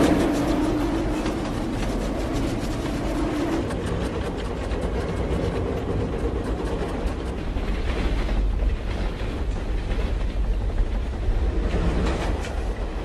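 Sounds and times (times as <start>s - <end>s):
train rumbling with wheel clatter: 0.0s - 13.0s.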